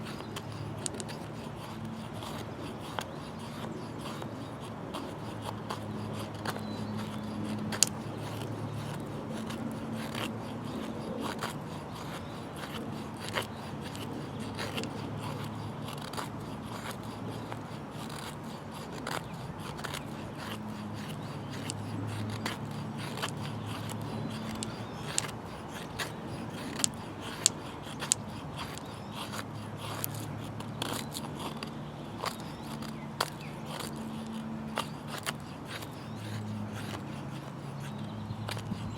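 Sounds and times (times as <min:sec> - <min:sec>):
folding saw cutting wood: 0:00.0 - 0:38.9.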